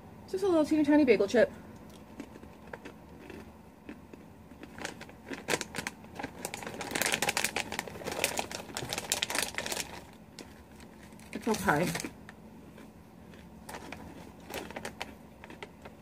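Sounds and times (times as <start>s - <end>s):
snack bag crinkling: 1.9s - 16.0s.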